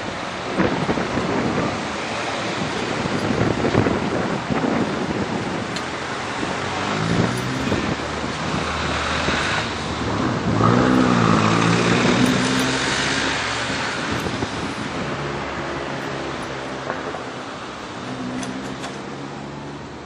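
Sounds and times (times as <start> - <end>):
vehicles passing rushing noise: 0.0 - 20.0.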